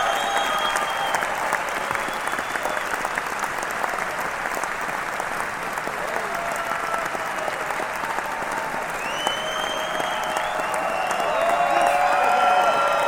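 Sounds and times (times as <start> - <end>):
crowd applauding: 0.0 - 13.0
crowd cheering: 0.0 - 13.0.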